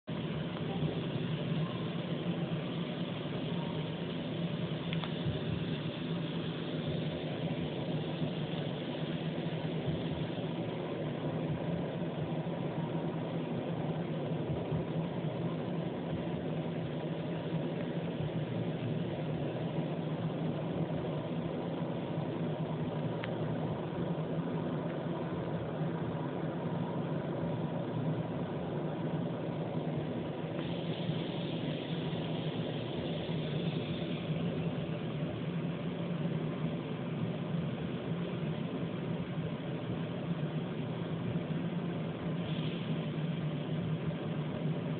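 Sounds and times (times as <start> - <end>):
low machine hum with hiss: 0.0 - 44.9.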